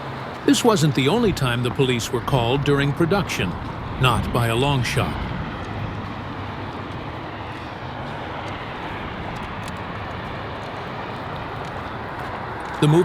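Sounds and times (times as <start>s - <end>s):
traffic rumble and hiss: 0.0s - 13.0s.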